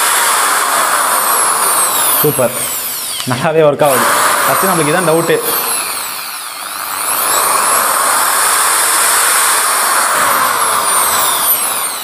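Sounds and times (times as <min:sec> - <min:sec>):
hammer drill motor whining: 0:00.0 - 0:12.0.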